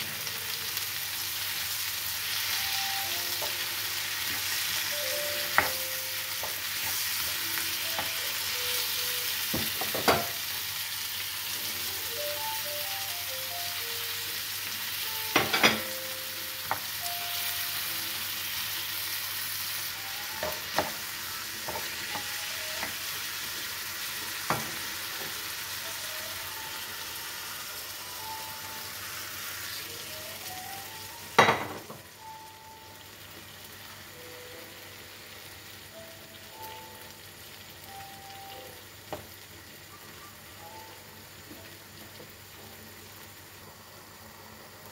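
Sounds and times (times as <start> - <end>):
faint tune: 0.0 - 10.5, 11.4 - 43.1
vegetables sizzling in frying pan: 0.0 - 44.9.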